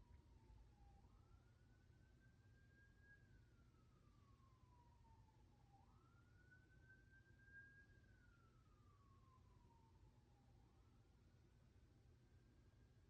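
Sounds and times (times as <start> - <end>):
faint ambulance siren wailing: 0.0 - 11.2.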